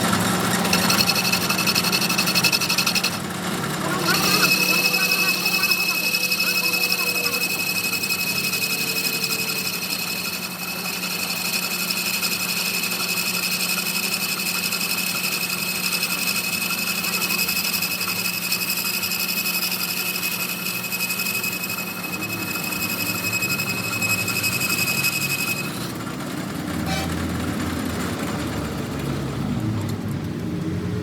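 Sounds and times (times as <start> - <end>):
workshop machine whining: 0.0 - 31.0.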